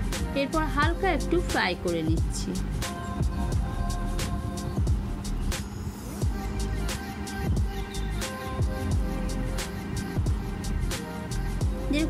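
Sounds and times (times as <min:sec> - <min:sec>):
music with deep sliding bass: 0:00.0 - 0:12.0.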